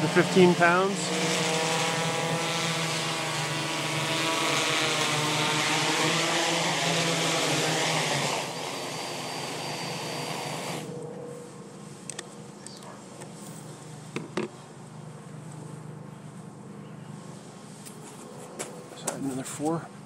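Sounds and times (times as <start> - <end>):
drone propellers droning: 0.0 - 20.0.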